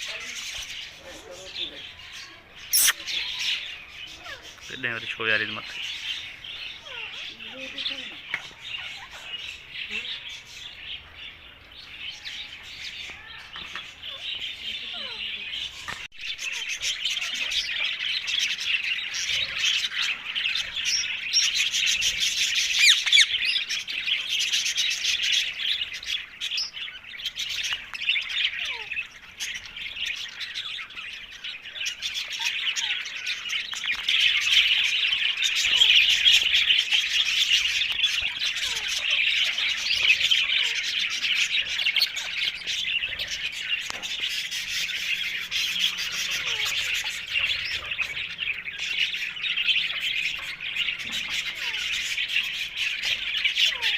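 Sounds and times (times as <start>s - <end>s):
parakeets chirping and squawking: 0.0s - 53.9s.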